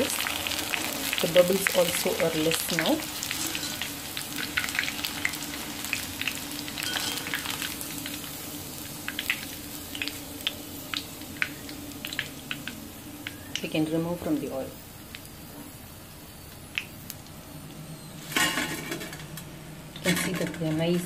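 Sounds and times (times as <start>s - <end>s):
oil crackles and pops: 0.0s - 13.8s, 14.9s - 20.8s
food deep-frying in oil: 0.0s - 21.0s.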